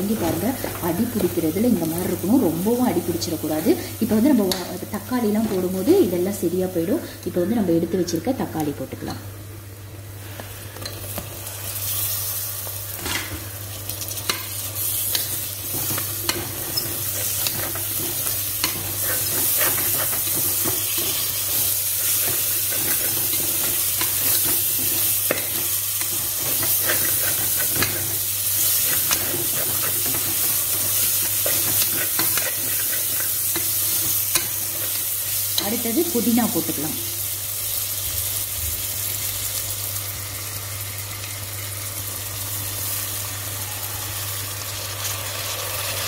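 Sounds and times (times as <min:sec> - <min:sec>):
tomatoes sizzling in a pot: 0:00.0 - 0:46.0.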